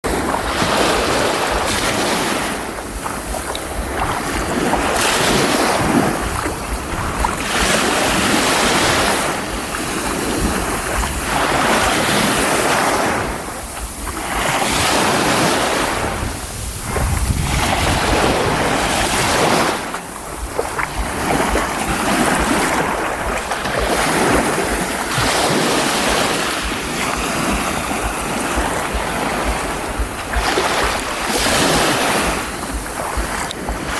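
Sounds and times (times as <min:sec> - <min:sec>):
surf washing onto shore: 0:00.0 - 0:33.9
wind rumbling on microphone: 0:00.0 - 0:33.9.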